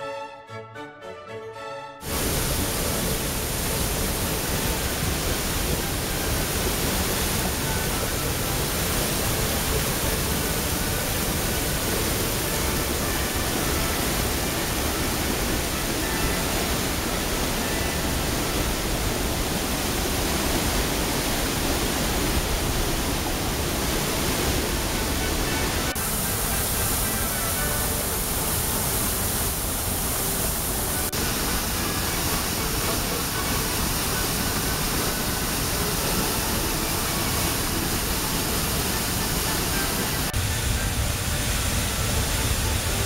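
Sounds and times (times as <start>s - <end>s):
floodwater rushing over spillway: 2.0s - 43.0s.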